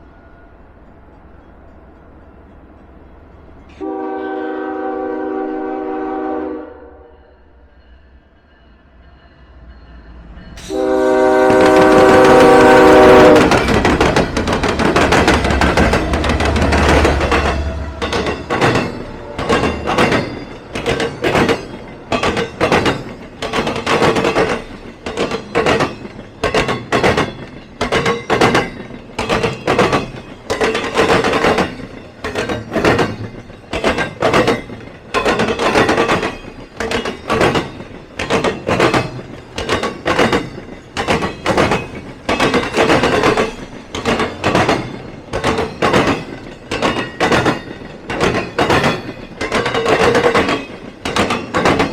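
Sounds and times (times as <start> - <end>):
train wheels clacking over crossing: 7.8 - 51.9.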